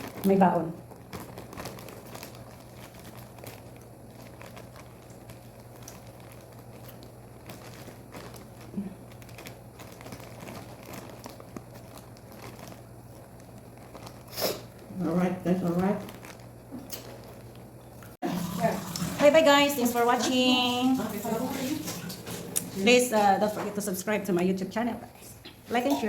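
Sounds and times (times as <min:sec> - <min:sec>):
plastic wrap crinkling: 0:00.0 - 0:18.1, 0:19.3 - 0:26.0
low steady hum: 0:00.0 - 0:26.0.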